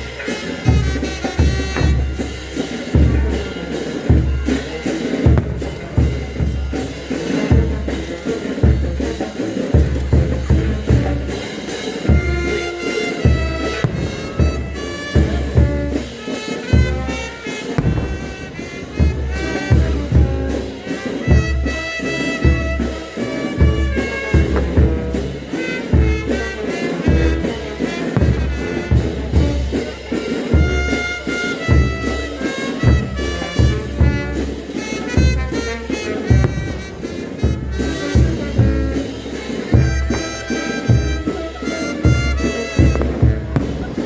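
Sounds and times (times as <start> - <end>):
wind instruments playing melody: 0.0 - 44.0
low drum beat: 0.6 - 31.0, 32.8 - 44.0.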